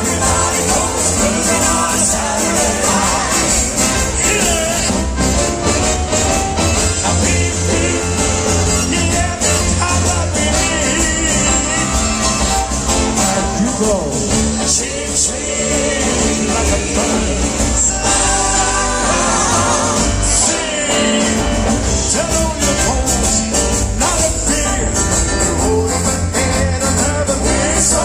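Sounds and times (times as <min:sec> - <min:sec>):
live band with singing: 0:00.0 - 0:28.0.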